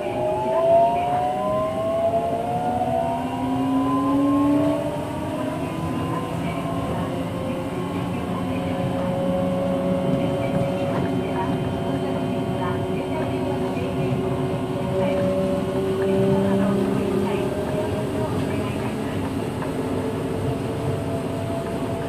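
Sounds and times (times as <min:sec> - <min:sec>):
train inverter whine rising: 0:00.0 - 0:22.0
train running noise: 0:00.0 - 0:22.0.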